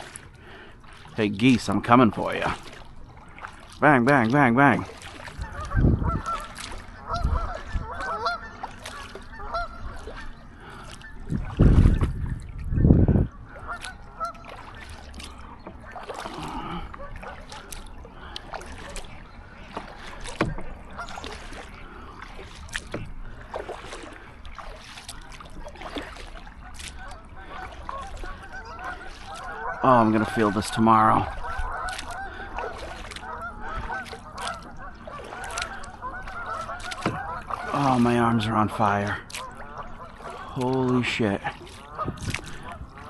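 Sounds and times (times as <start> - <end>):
paddle splashes and drips: 0.0 - 43.0
geese honking: 5.2 - 11.5, 12.7 - 43.0.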